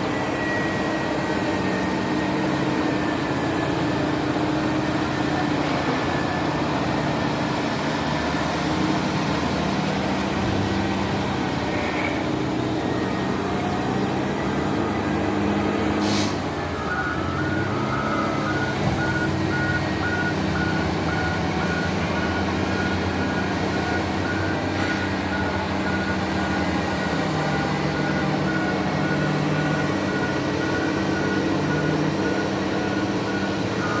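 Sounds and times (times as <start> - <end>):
diesel machinery running: 0.0 - 34.0.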